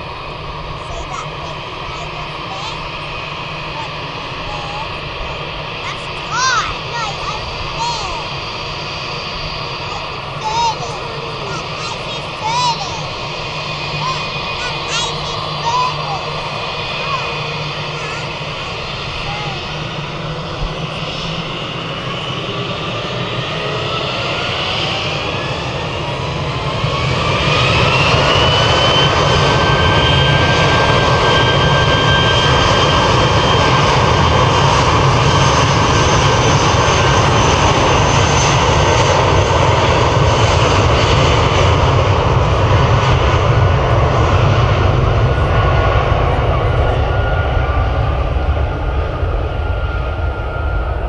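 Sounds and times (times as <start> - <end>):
jet engines spooling up: 0.0 - 51.0.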